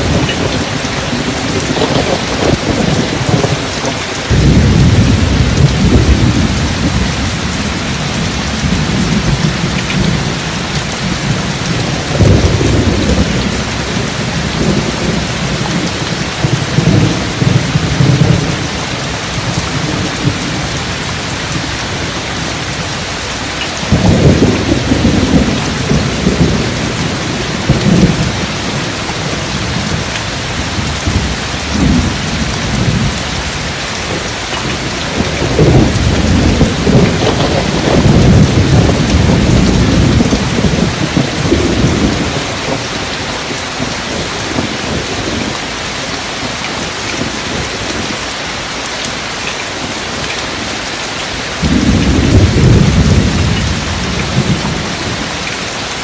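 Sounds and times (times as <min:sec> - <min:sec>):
deep rolling thunder: 0:00.0 - 0:48.4, 0:49.8 - 0:55.7
heavy rain: 0:00.0 - 0:56.0.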